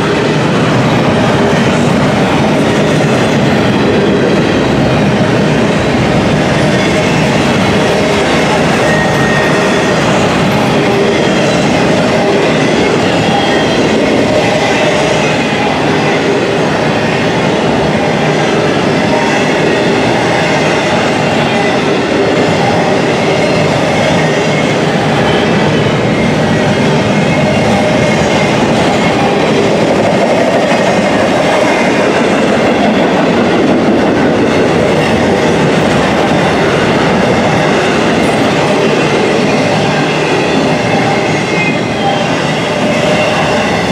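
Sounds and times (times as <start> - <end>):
freight train wheels rumbling: 0.0 - 43.9.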